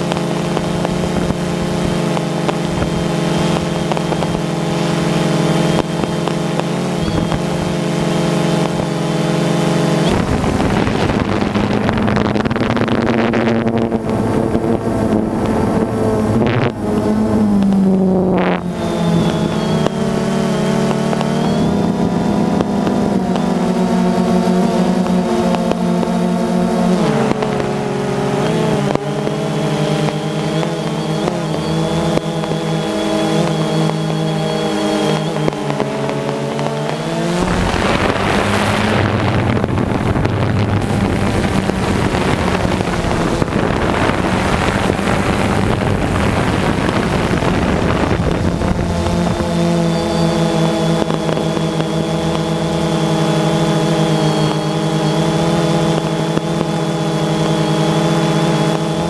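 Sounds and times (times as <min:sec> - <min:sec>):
drone propellers whining: 0:00.0 - 0:59.0
rough crackly noise: 0:00.0 - 0:59.0.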